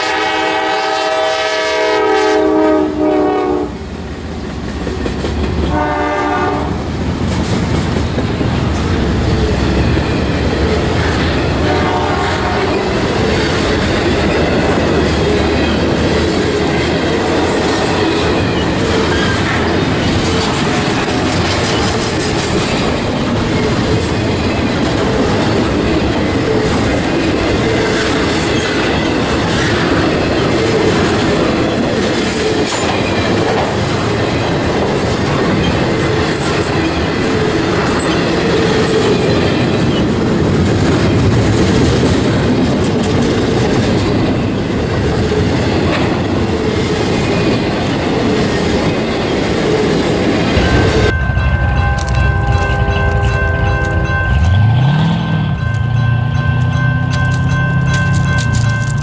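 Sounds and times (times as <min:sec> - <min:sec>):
steel train wheels on rails: 0:00.0 - 0:59.0.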